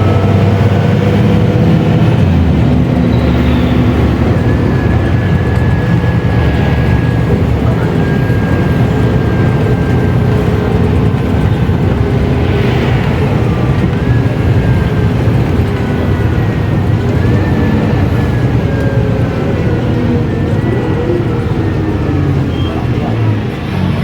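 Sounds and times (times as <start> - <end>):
bus diesel engine drone: 0.0 - 24.0
high-pitched whine: 0.0 - 24.0.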